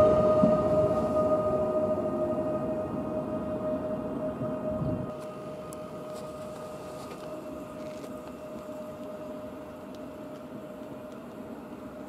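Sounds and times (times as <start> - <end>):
electric locomotive whine and rumble: 0.0 - 12.0.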